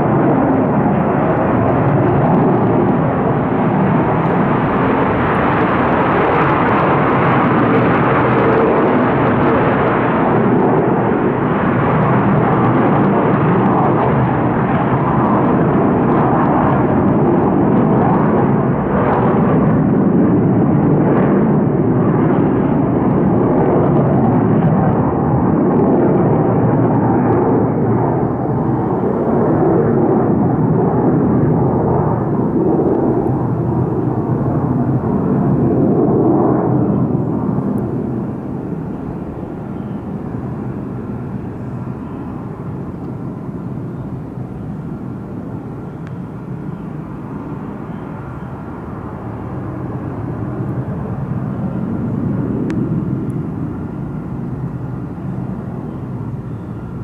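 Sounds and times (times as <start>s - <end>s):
fighter jet engine roar: 0.0s - 57.0s.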